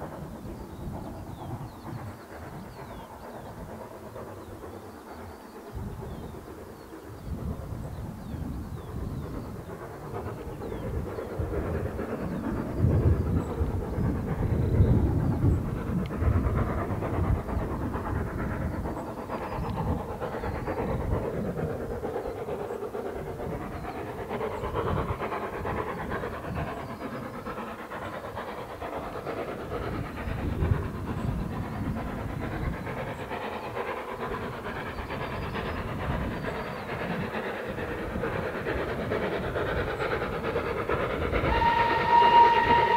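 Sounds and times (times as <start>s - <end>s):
steam hissing: 0.0s - 42.9s
steam locomotive chuffing: 0.0s - 42.9s.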